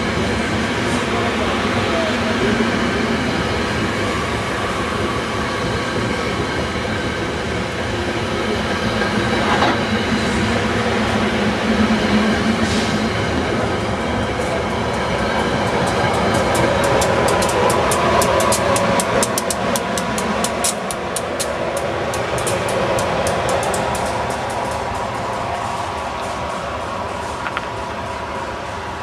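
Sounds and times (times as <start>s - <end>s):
train coaches rumbling on rails: 0.0s - 29.0s.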